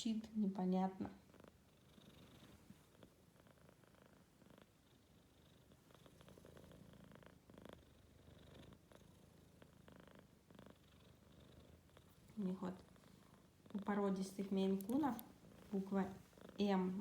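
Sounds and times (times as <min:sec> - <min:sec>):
kitten purring or snoring: 0:01.1 - 0:17.0.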